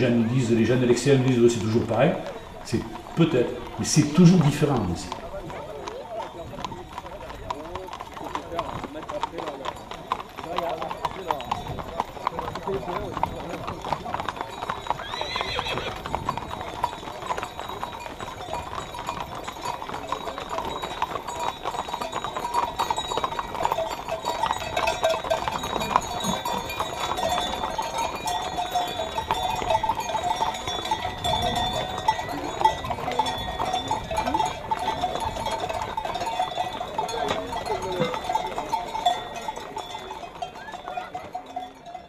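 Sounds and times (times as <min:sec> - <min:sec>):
animal bells jangling: 0:00.0 - 0:42.0
hooves clattering on tarmac: 0:00.0 - 0:42.0.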